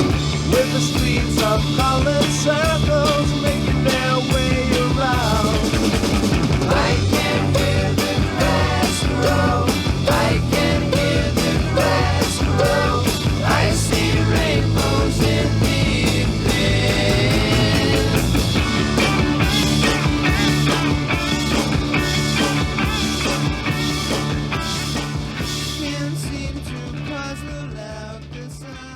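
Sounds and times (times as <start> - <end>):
psychedelic rock music: 0.0 - 28.9.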